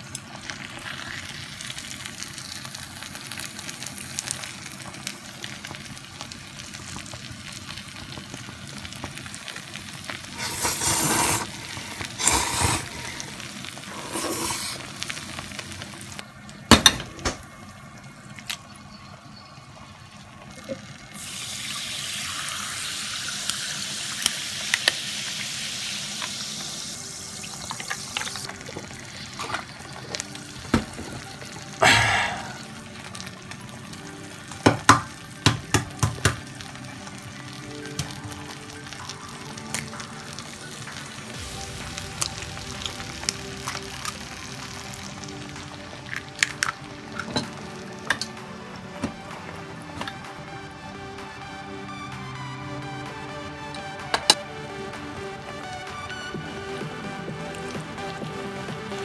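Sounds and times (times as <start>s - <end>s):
noodles sizzling: 0.0s - 59.0s.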